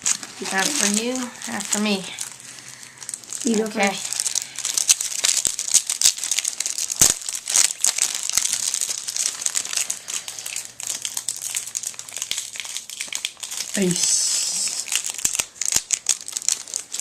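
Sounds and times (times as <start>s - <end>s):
wrapper crinkling: 0.0s - 17.0s
wrapper tearing: 0.0s - 17.0s.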